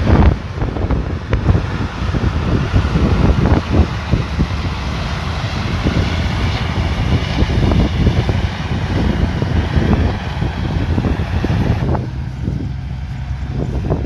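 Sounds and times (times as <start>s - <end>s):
combine harvester engine drone: 0.0s - 14.0s
machinery rattling: 0.0s - 14.0s.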